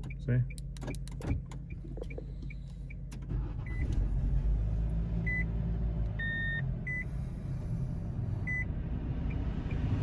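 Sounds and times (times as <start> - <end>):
car engine running: 0.0 - 8.7.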